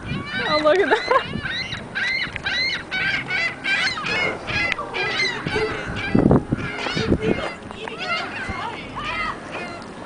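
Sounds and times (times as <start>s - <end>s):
seagulls squawking: 0.0s - 10.0s.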